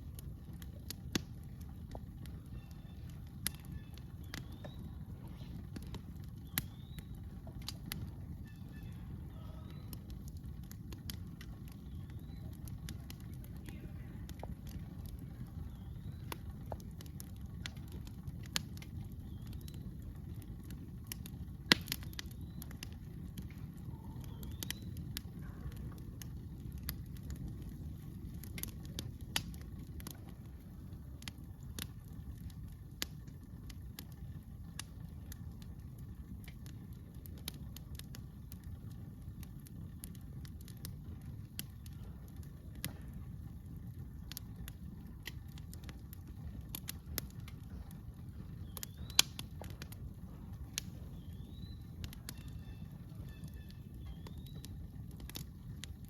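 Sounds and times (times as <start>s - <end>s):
campfire crackling: 0.0s - 56.0s
low rumble: 0.0s - 56.0s.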